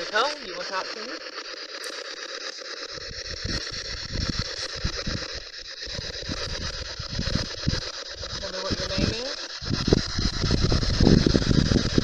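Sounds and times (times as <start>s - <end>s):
radio static sweeping: 0.0s - 12.0s.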